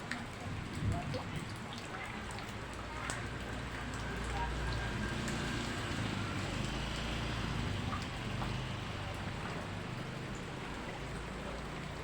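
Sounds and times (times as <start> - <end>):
faint drip ticks: 0.0 - 6.0, 7.9 - 12.0.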